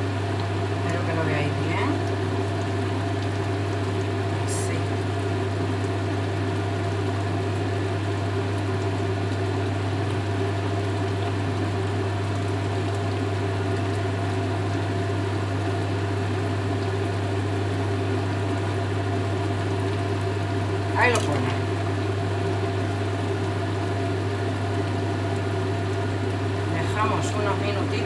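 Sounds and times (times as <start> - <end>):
appliance electrical hum with fan whir: 0.0 - 28.0.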